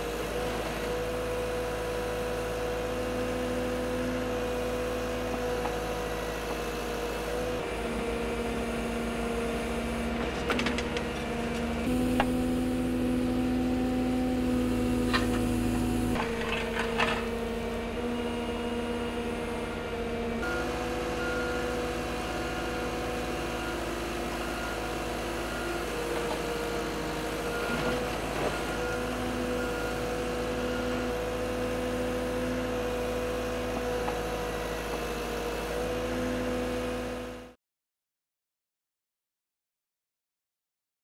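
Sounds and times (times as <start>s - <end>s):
diesel engine running: 0.0s - 36.1s.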